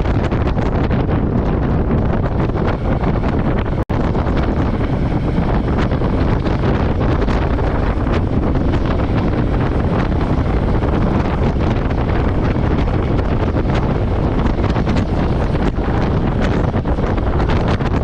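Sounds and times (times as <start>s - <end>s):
motorcycle running: 0.0s - 18.0s
road noise: 0.0s - 18.0s
wind buffeting microphone: 0.0s - 18.0s.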